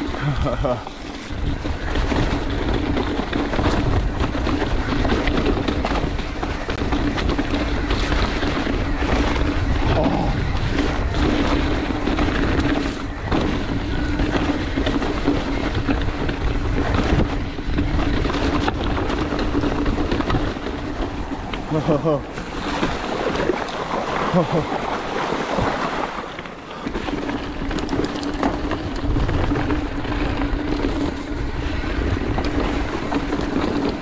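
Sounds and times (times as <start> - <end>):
bike rattling: 0.0 - 34.0
tyres rolling on dirt: 0.0 - 34.0
wind on microphone: 0.0 - 34.0.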